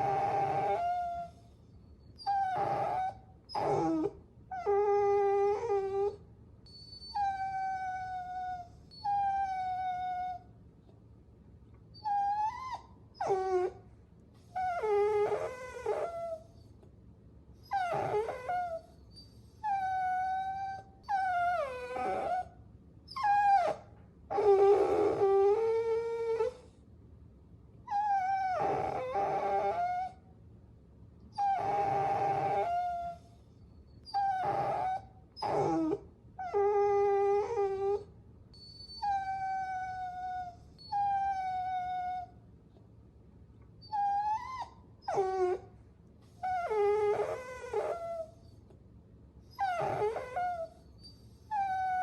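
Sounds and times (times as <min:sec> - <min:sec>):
puppy whining and whimpering: 0:00.0 - 0:10.6, 0:11.9 - 0:16.9, 0:17.6 - 0:26.8, 0:27.9 - 0:30.3, 0:31.3 - 0:42.5, 0:43.7 - 0:48.8, 0:49.4 - 0:52.0.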